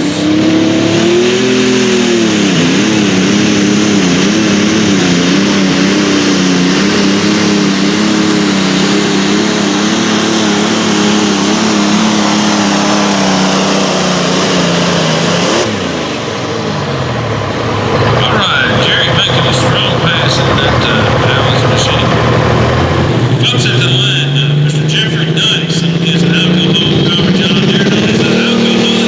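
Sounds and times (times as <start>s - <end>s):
engine running hard under load: 0.0s - 29.0s.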